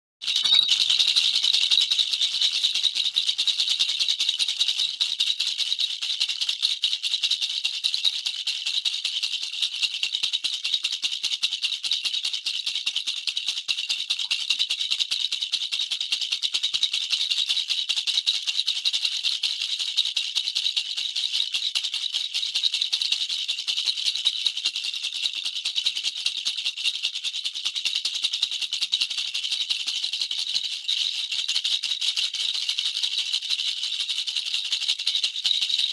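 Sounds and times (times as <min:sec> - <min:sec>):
baby rattle shaken: 0:00.2 - 0:35.9.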